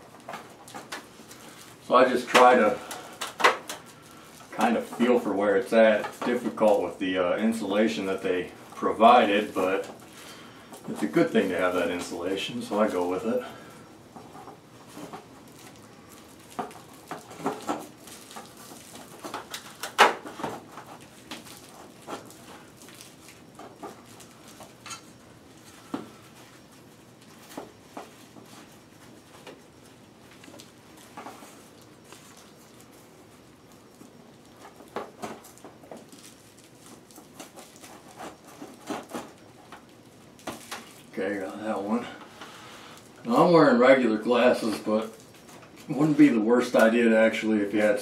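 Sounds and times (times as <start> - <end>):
foil insulation crinkling: 0.0 - 48.0.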